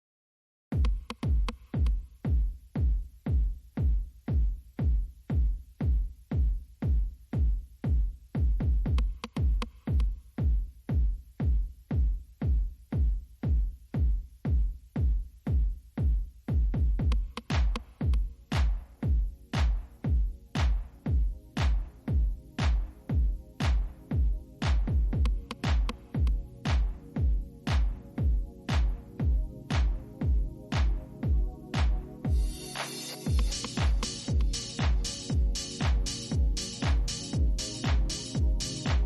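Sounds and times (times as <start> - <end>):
electronic music with kick drum: 0.7 - 39.0.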